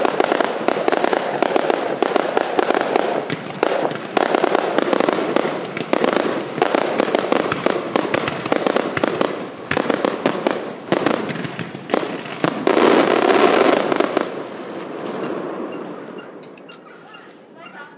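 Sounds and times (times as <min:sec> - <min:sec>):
fireworks bangs and crackling: 0:00.0 - 0:17.6.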